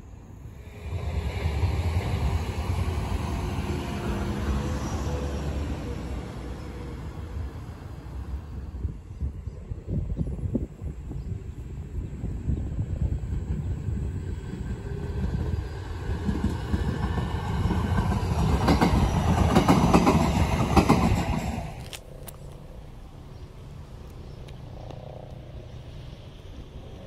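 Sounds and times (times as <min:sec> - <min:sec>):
distant train rumble: 0:00.0 - 0:27.0
train passing with wheel clatter: 0:00.0 - 0:27.0.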